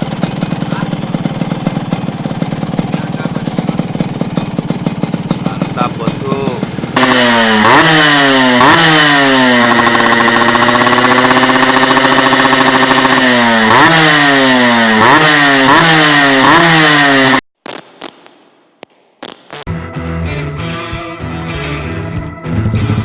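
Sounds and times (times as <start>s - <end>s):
motorcycle engine revving: 0.0s - 17.5s, 19.4s - 23.0s.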